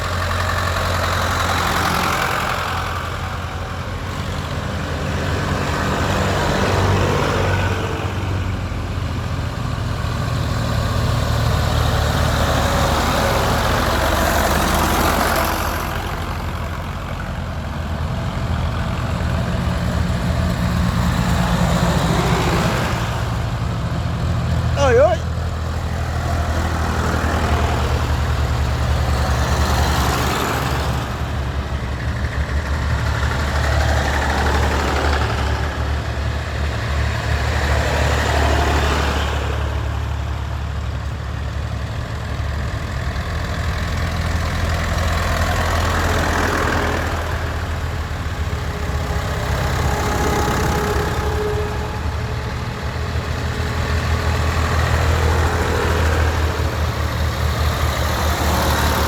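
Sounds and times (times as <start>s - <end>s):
tractor engines running: 0.0s - 59.0s
tractors passing by: 0.0s - 59.0s.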